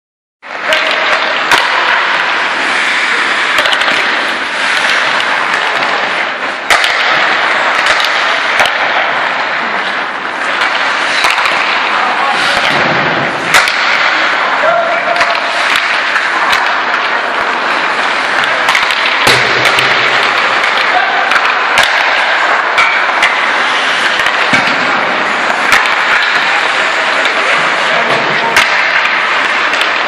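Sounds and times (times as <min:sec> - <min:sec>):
hockey sticks and pucks clacking: 0:00.4 - 0:30.0
skates scraping across ice: 0:00.5 - 0:30.0.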